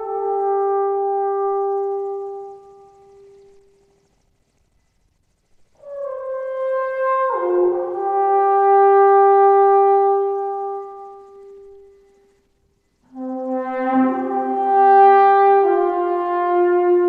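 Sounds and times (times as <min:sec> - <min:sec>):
brass horn notes: 0:00.0 - 0:03.8, 0:05.8 - 0:12.2, 0:13.1 - 0:17.0.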